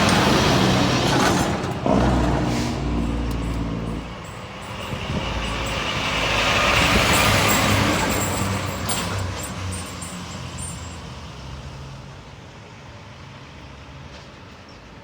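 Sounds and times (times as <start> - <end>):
fire engine diesel rumble: 0.0 - 14.6
road noise of passing traffic: 0.0 - 15.0.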